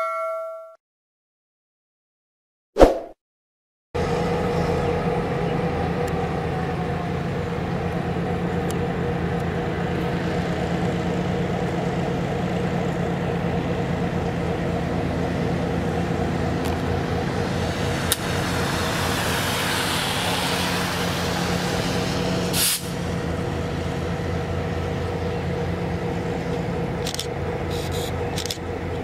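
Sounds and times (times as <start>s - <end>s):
diesel locomotive engine droning: 4.0s - 29.0s.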